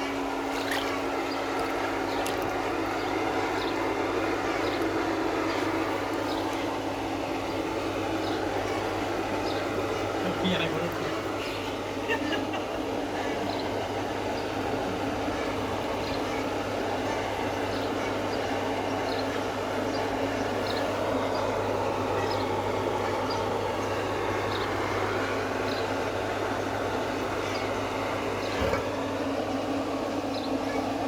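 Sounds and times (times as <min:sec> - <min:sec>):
pump motor hum: 0:00.0 - 0:31.0.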